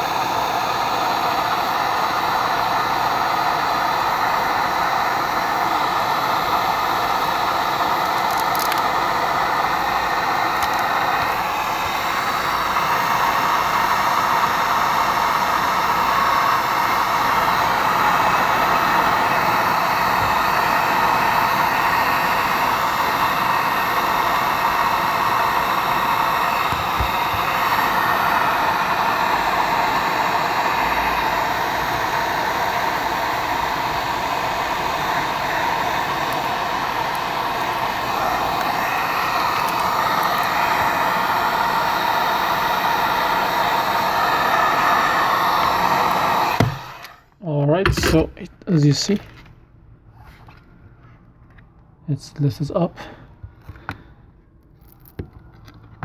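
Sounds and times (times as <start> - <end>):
hot-air blower running: 0.0 - 49.2.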